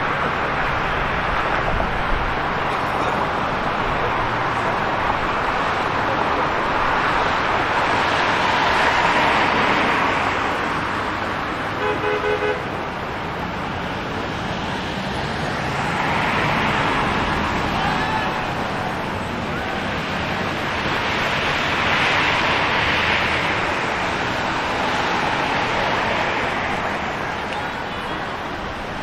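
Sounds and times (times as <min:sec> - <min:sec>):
vehicles passing: 0:00.0 - 0:29.0.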